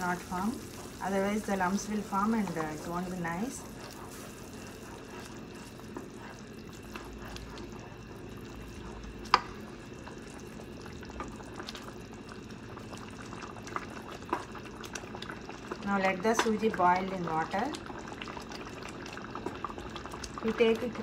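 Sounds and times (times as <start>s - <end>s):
mixture bubbling: 0.0s - 21.0s.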